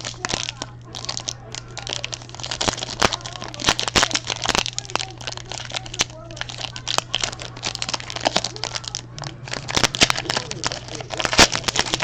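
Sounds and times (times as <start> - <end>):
wrapper crinkling and crackling: 0.0 - 12.0.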